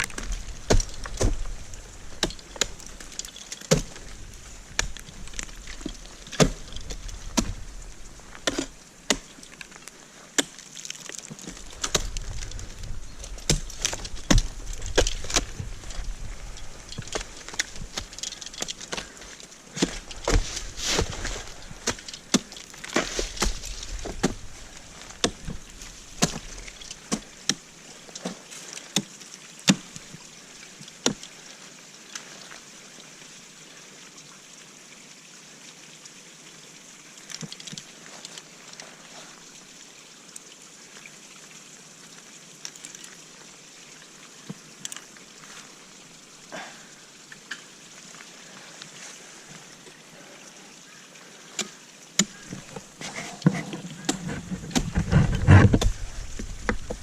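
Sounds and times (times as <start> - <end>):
trickling water: 0.0 - 57.0.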